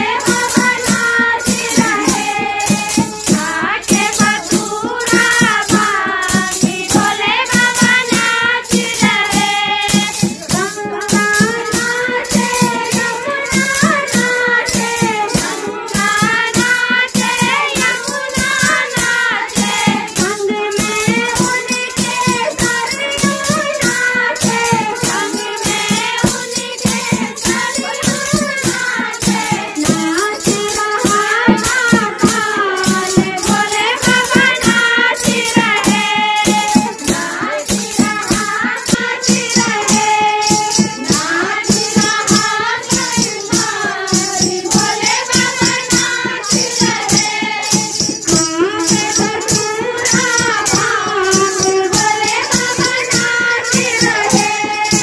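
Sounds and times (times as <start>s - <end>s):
rattling hand percussion: 0.0s - 55.0s
women singing devotional song: 0.0s - 55.0s.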